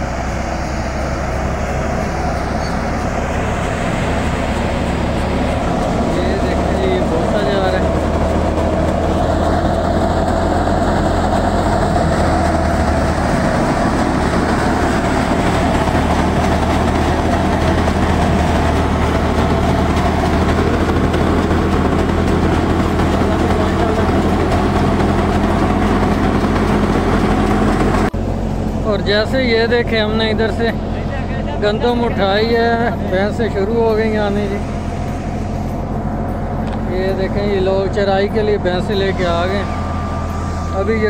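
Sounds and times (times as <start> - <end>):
thresher machine drone: 0.0 - 41.0.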